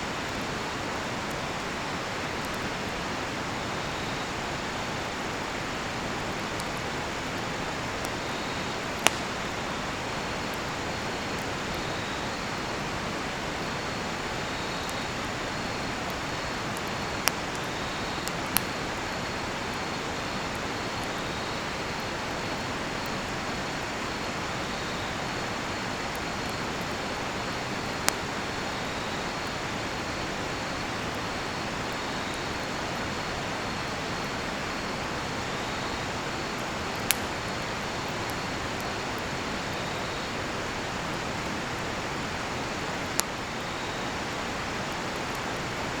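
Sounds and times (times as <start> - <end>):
campfire popping: 0.0 - 46.0
crickets chirping: 0.0 - 46.0.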